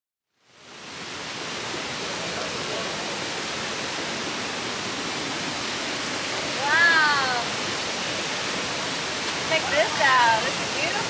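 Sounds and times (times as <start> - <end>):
river water flowing: 0.3 - 11.0.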